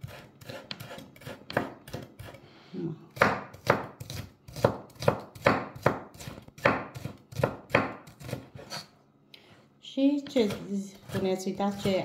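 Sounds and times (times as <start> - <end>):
knife chopping on wooden board: 0.0 - 2.4, 3.1 - 8.9, 10.2 - 12.0.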